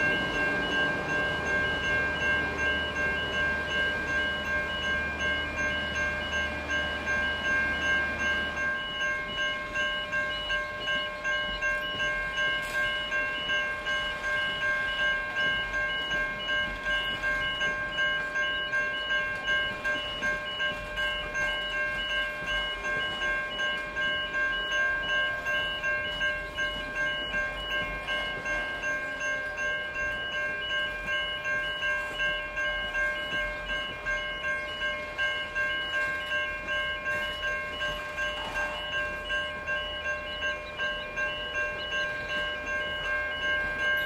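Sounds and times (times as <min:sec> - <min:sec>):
level crossing bell ringing: 0:00.0 - 0:44.0
train carriages rolling by: 0:00.0 - 0:44.0.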